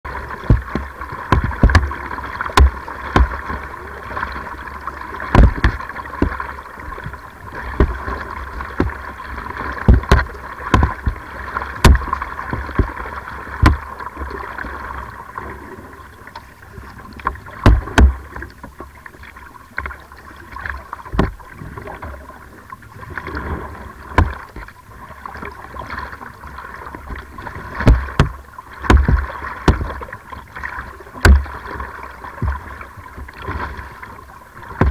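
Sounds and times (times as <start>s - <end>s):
kayak paddle splashes and knocks: 0.1s - 34.9s.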